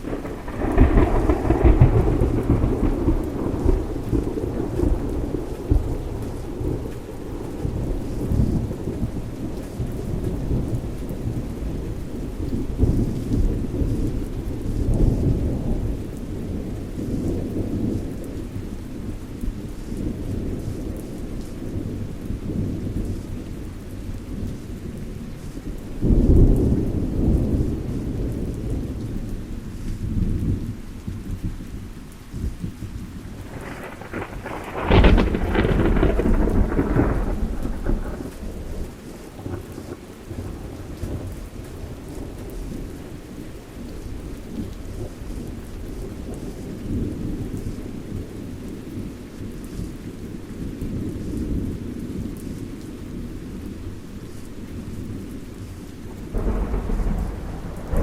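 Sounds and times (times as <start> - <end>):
thunder rumbling: 0.0 - 31.6, 32.3 - 58.0
rain falling: 0.0 - 58.0.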